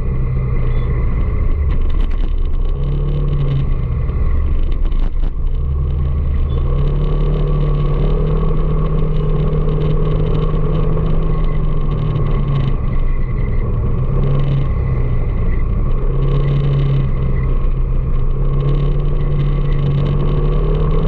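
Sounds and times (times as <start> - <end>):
motorcycle engine running: 0.0 - 21.0
road and traffic noise: 0.0 - 21.0.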